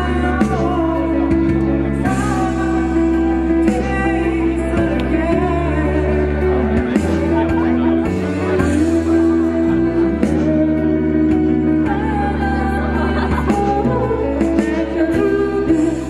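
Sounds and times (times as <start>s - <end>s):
steady low bass: 0.0s - 16.0s.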